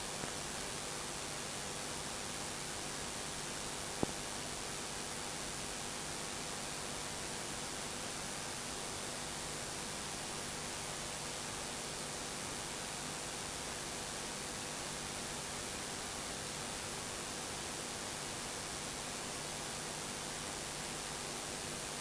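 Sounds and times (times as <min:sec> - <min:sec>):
recording hiss: 0:00.0 - 0:22.0.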